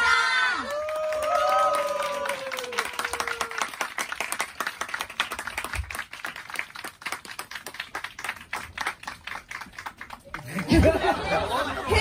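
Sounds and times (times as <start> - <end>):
audience applause: 0.6 - 12.0.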